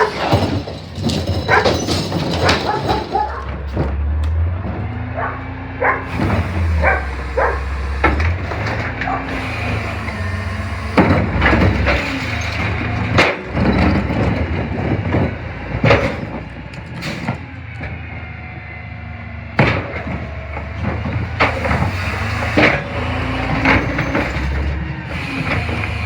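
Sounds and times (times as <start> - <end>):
metal clanks and knocks: 0.0 - 18.0, 19.6 - 26.0
garbage truck engine hum: 0.0 - 26.0.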